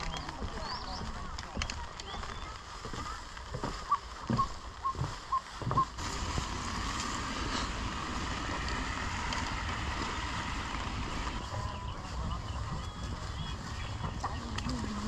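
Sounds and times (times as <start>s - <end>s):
soft low thumps: 0.0s - 15.0s
wind-like background noise: 0.0s - 15.0s.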